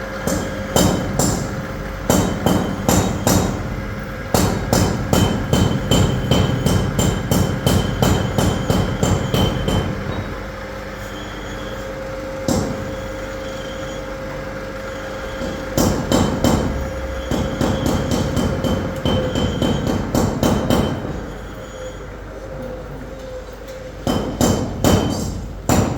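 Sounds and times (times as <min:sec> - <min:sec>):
steady hum with held tone: 0:00.0 - 0:25.9.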